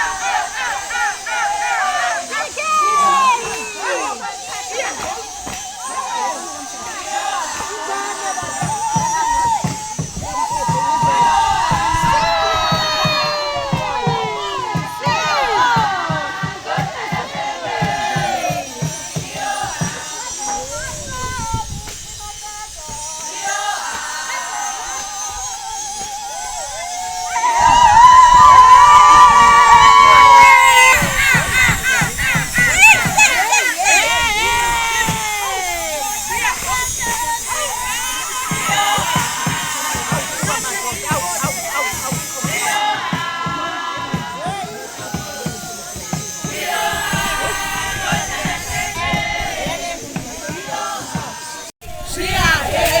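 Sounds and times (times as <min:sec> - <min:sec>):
high voice singing: 0:00.0 - 0:53.0
many voices singing: 0:00.0 - 0:53.0.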